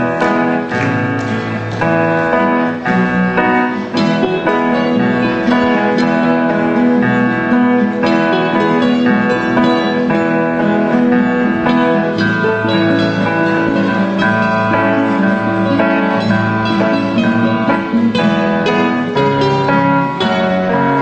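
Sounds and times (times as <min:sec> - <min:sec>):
acoustic guitars playing: 0:00.0 - 0:21.0.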